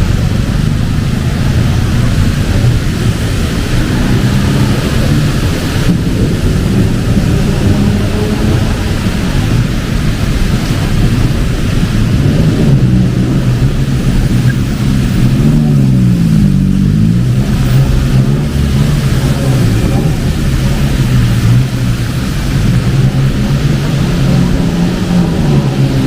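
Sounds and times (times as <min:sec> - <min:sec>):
heavy rain hissing: 0:00.0 - 0:26.0
traffic engines on wet road: 0:00.0 - 0:26.0.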